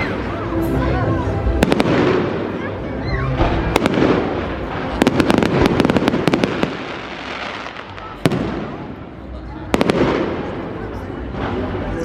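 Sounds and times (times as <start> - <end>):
firework crackling reports: 0.0 - 12.0.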